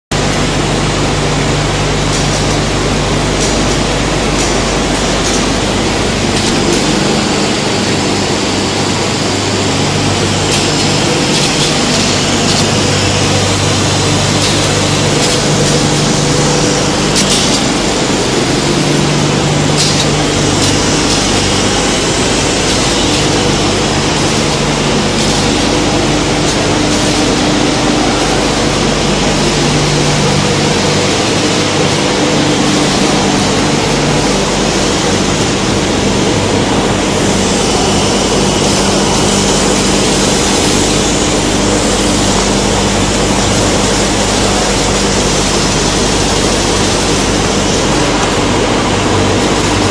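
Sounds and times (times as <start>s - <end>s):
machine hums: 0.1s - 49.9s
machine rushing hiss: 0.2s - 49.9s.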